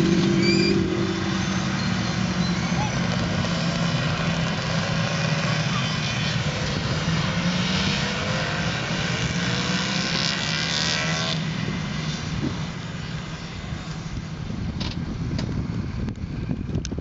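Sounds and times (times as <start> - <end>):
motorcycles riding past: 0.0 - 14.4.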